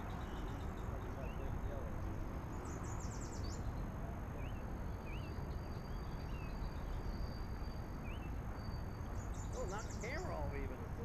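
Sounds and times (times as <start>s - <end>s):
birds singing: 0.0s - 11.0s.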